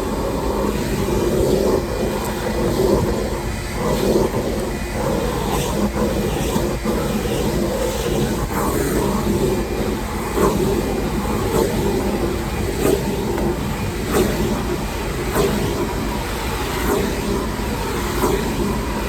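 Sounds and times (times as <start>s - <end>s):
shop vacuum running: 0.0s - 19.0s.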